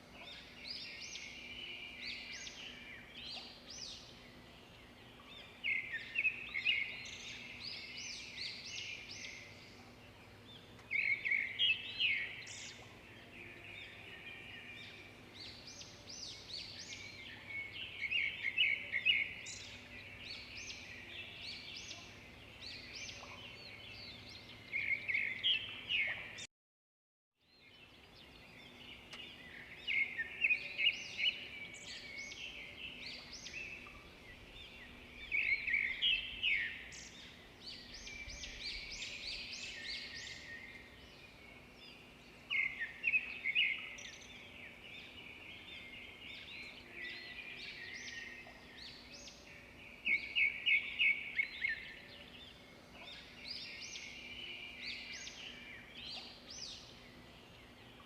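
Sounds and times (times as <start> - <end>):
birds singing and chirping: 0.0 - 26.5, 27.4 - 58.0.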